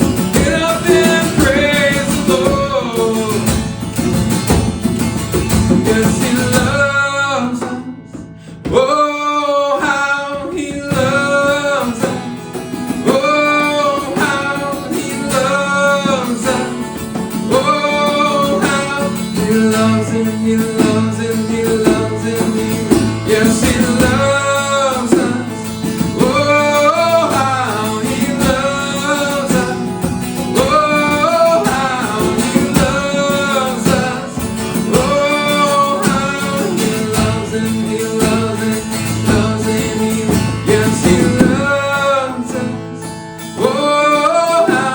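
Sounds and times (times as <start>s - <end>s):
person singing worship song: 0.0s - 4.0s, 5.5s - 44.9s
acoustic guitar: 0.0s - 44.9s.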